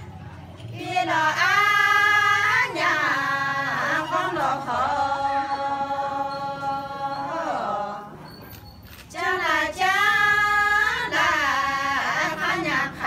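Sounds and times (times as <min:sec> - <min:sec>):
women singing a cappella: 0:00.6 - 0:08.4, 0:09.0 - 0:13.0.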